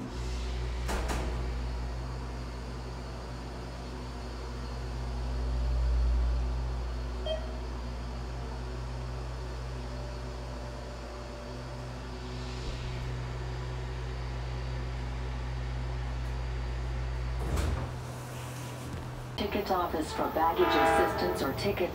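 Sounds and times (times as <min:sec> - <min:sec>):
low machinery hum: 0:00.0 - 0:21.9.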